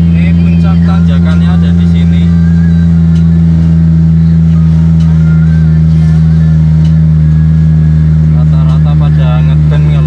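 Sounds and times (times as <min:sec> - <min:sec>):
car engine and road drone: 0:00.0 - 0:10.0.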